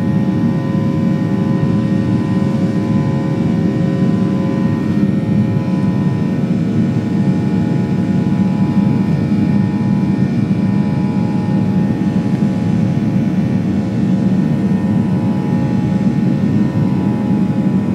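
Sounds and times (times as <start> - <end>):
jet engines rumbling and whining: 0.0 - 17.9.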